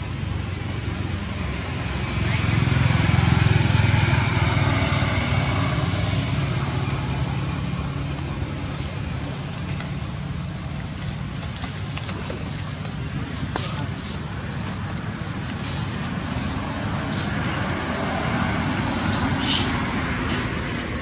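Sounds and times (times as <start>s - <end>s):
vehicle engine running: 0.1s - 21.0s.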